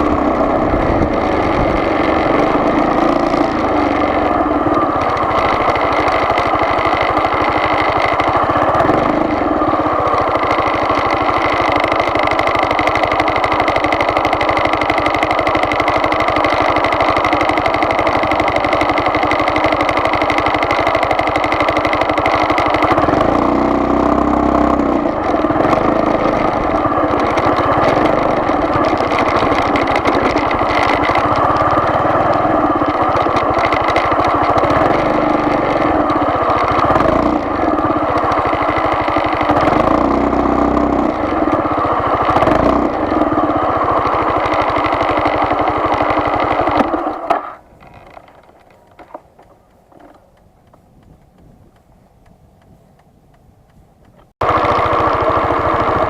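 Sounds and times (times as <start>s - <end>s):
vehicle engine driving: 0.0s - 56.0s.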